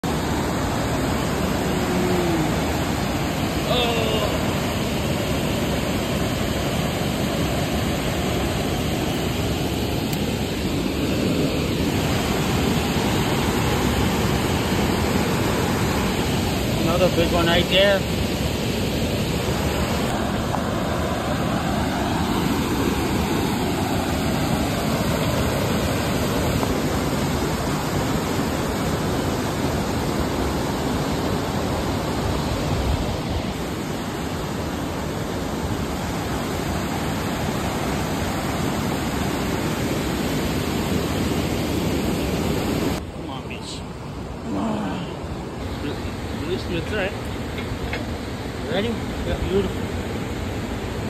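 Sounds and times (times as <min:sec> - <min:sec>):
water rushing through a dam: 0:00.0 - 0:51.0.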